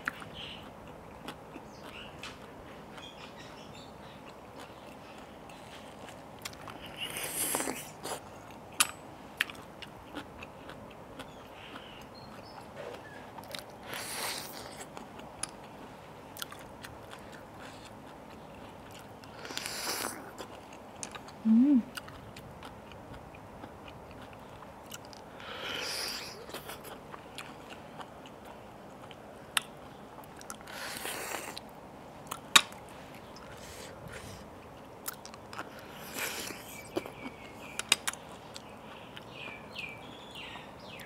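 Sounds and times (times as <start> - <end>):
wet chewing and lip smacking: 0.0 - 40.5.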